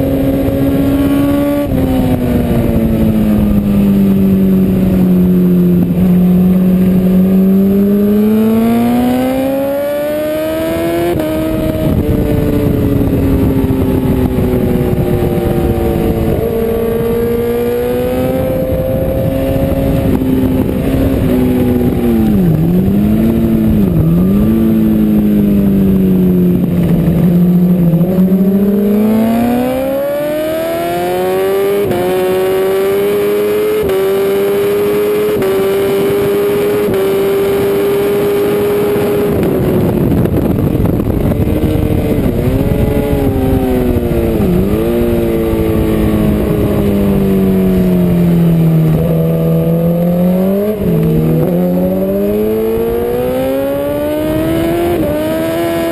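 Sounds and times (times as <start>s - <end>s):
motorcycle engine racing: 0.0s - 55.9s.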